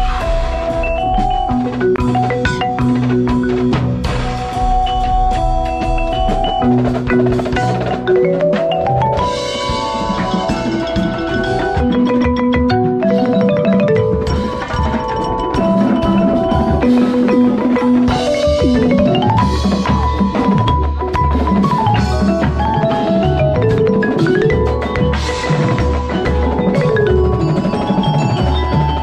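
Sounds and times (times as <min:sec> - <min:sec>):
marimba fast note runs: 0:00.0 - 0:29.0
percussion ensemble: 0:00.0 - 0:29.0.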